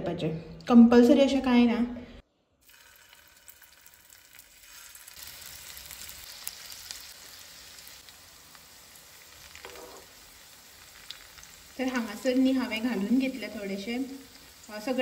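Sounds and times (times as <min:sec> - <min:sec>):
potatoes sizzling in hot oil: 0:02.6 - 0:15.0.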